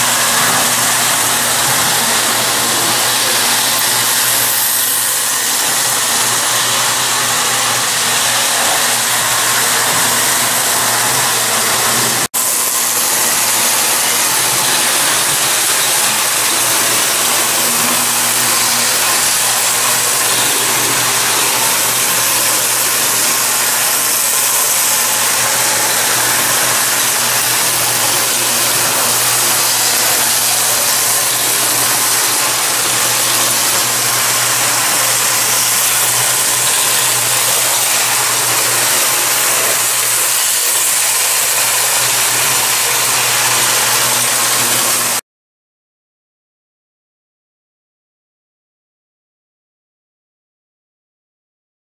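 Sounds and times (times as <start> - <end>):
toy train whirring rattle: 0.0 - 45.2.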